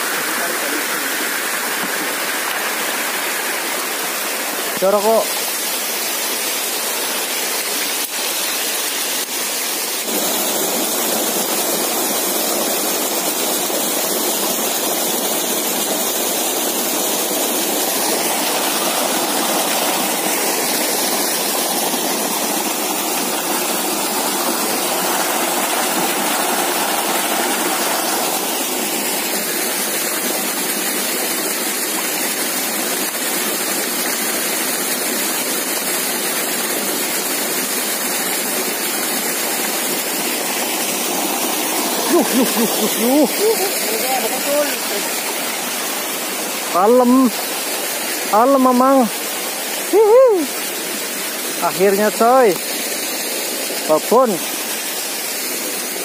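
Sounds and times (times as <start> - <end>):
stream splashing over stones: 0.0 - 56.0.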